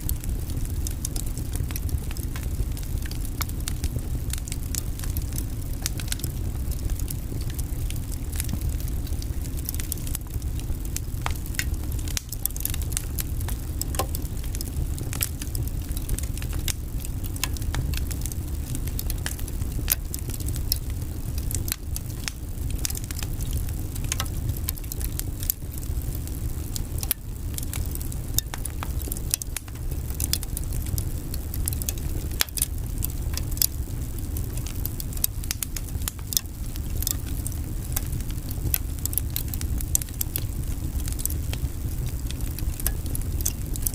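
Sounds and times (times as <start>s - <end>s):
fire crackling and popping: 0.0s - 43.9s
low rumble of fire: 0.0s - 43.9s.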